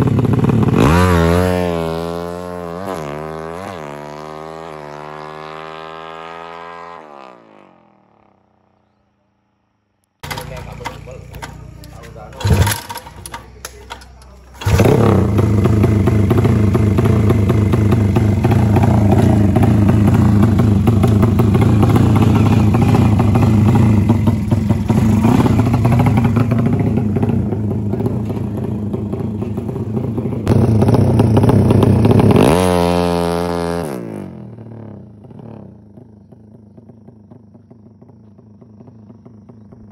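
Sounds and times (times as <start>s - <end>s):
motorcycle engine revving: 0.0s - 8.8s, 10.2s - 39.9s.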